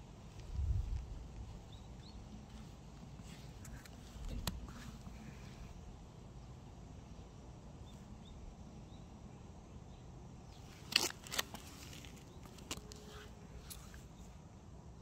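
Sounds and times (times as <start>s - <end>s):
low outdoor background rumble: 0.0s - 15.0s.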